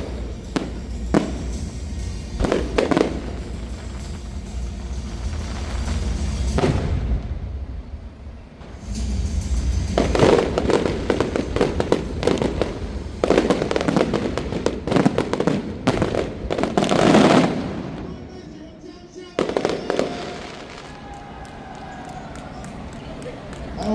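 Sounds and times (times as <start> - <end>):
fireworks crackling bangs: 0.0 - 23.9.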